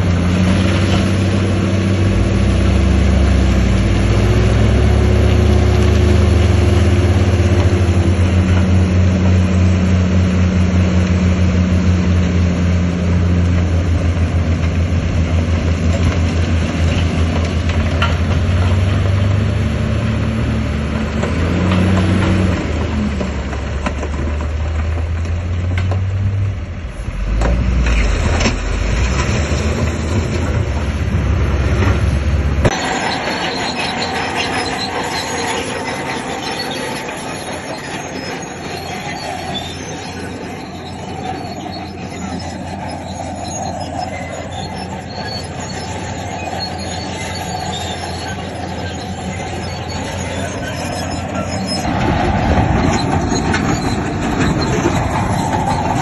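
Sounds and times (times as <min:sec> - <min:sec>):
crawler tracks clanking and squealing: 0:00.0 - 0:56.0
diesel engine under load: 0:00.0 - 0:56.0.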